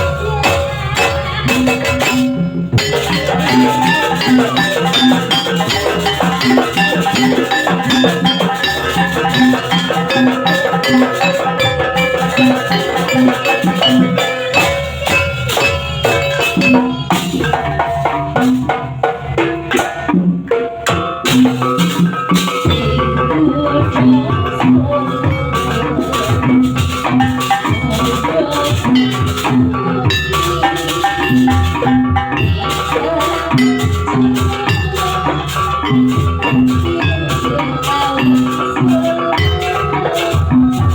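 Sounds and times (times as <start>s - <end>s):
drums: 0.0s - 40.9s
ringing metal percussion: 0.0s - 40.9s.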